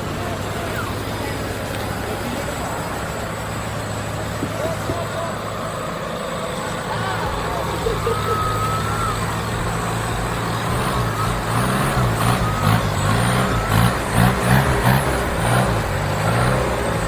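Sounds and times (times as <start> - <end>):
engine revving under load: 0.0 - 17.0.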